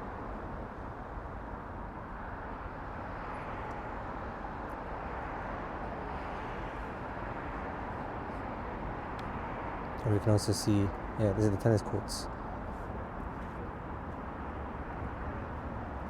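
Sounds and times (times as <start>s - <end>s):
distant road traffic hum: 0.0s - 16.0s.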